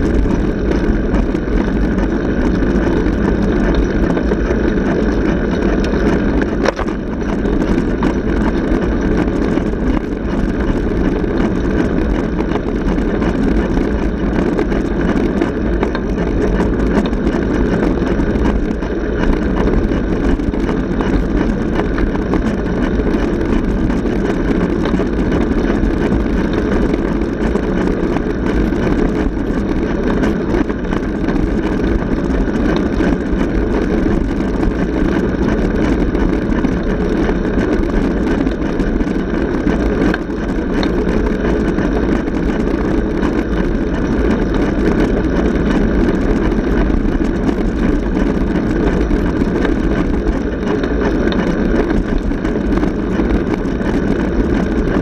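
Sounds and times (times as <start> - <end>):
tyres humming on asphalt: 0.0 - 55.0
wind rushing on microphone: 0.0 - 55.0.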